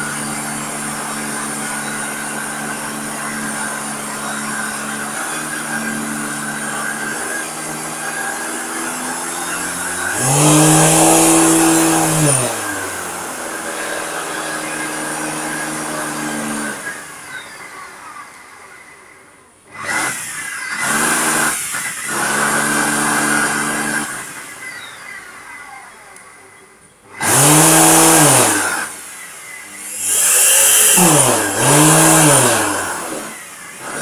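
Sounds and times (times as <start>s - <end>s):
vacuum cleaner motor droning: 0.0s - 18.8s, 19.7s - 25.4s, 27.1s - 34.0s.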